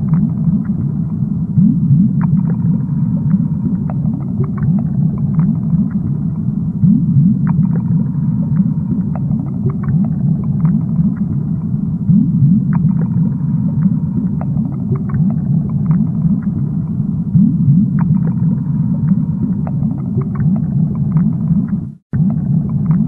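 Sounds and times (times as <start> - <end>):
aquarium water bubbling: 0.0 - 23.0.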